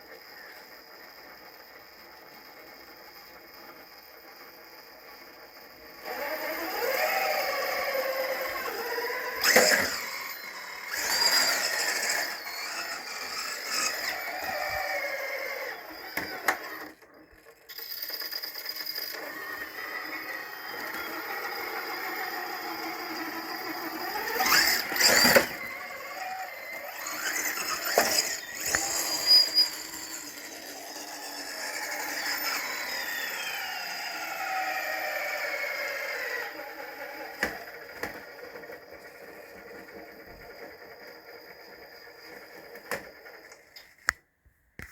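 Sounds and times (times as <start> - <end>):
rc car electric motor whine: 0.0 - 43.9.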